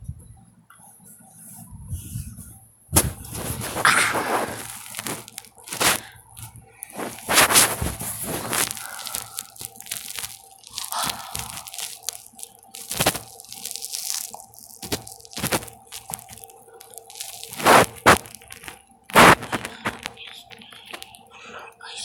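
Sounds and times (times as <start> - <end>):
faint steady hum: 0.0 - 22.0
close crunching and rustling: 2.2 - 21.2.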